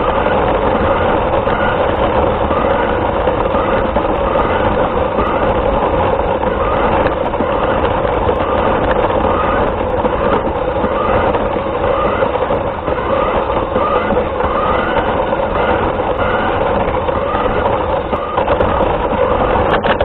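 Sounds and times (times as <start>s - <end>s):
rc car motor and gear noise: 0.0s - 20.0s.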